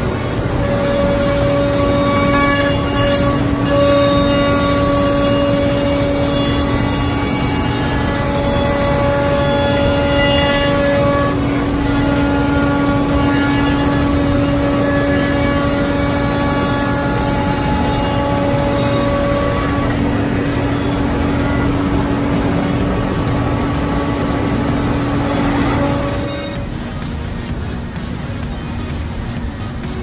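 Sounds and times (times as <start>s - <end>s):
higher tone of router bit: 0.0s - 28.0s
router spindle whining: 0.0s - 29.8s.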